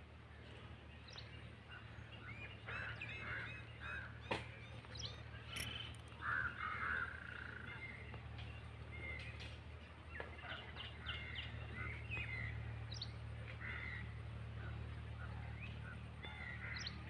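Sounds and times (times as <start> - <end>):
birds chirping: 0.8 - 17.0.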